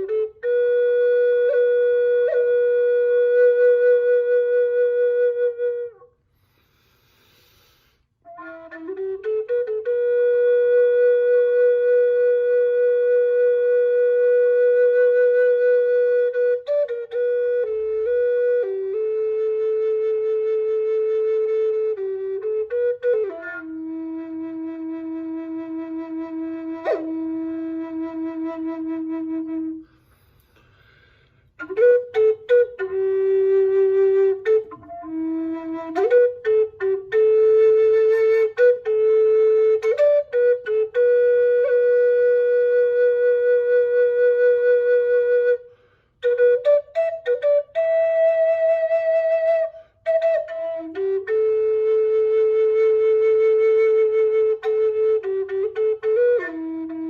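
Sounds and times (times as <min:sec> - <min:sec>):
solo wind instrument melody: 0:00.0 - 0:30.8, 0:31.5 - 0:57.0.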